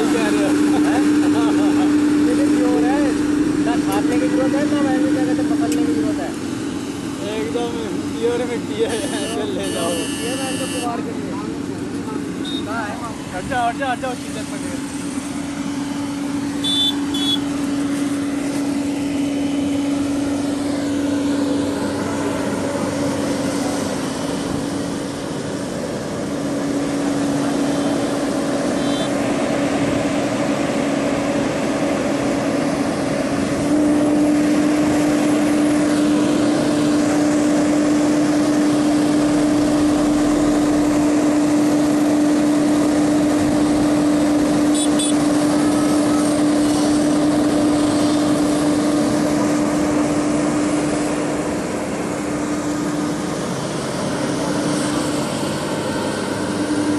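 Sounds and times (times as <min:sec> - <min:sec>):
excavator engine whining: 0:00.0 - 0:56.9.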